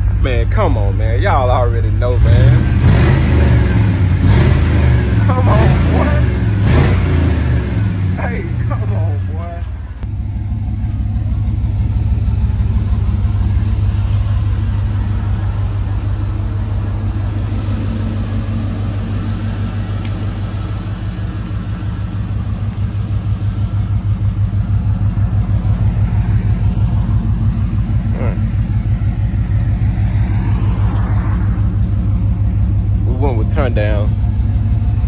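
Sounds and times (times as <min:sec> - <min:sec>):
car exhaust rumble: 0:00.0 - 0:35.0.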